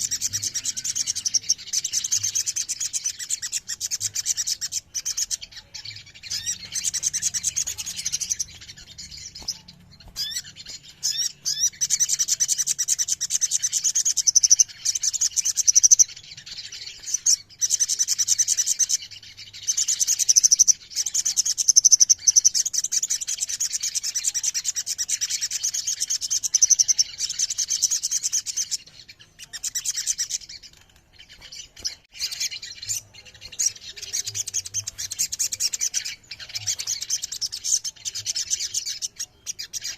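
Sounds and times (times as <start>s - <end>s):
birds trilling and chirping: 0.0s - 39.9s.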